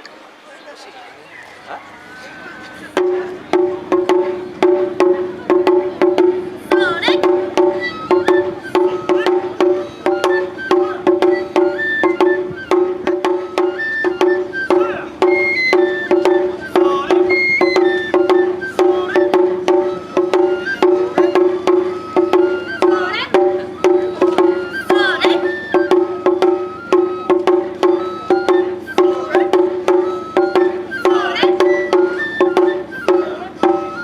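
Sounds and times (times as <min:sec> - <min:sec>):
drums playing: 0:02.3 - 0:34.0.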